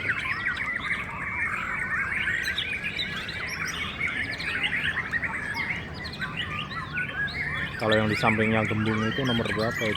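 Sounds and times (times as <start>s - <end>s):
chorus of birds singing: 0.0s - 9.9s.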